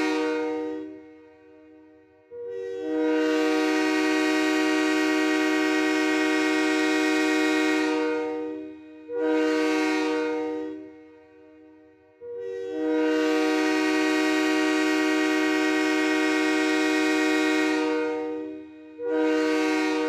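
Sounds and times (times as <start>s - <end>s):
train air horn blasts: 0.0s - 20.0s.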